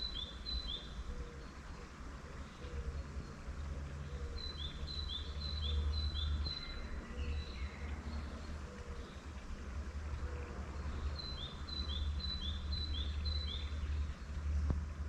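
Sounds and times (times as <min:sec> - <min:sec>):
wild birds singing: 0:00.0 - 0:14.5.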